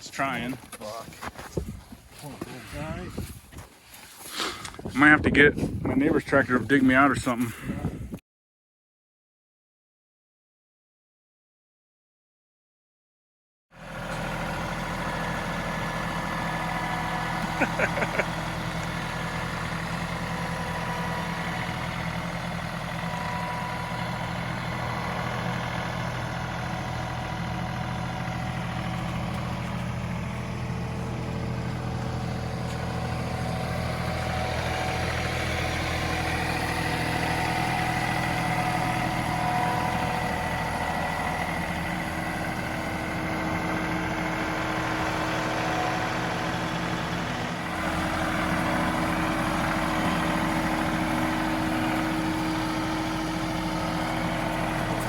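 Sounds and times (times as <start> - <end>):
tractor diesel engine running: 0.0 - 8.2, 13.8 - 55.0.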